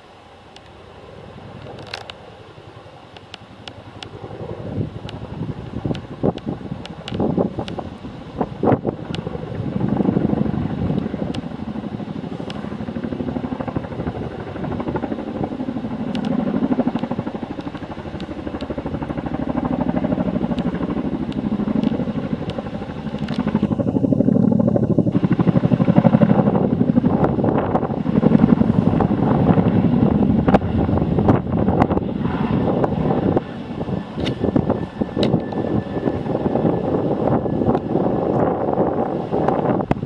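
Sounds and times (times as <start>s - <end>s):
helicopter rotors beating: 0.0s - 40.0s.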